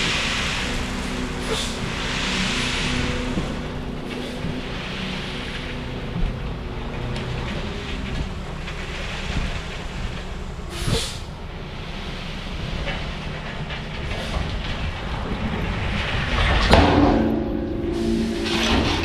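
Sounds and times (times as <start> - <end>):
heavy machine rumbling: 0.0 - 19.0.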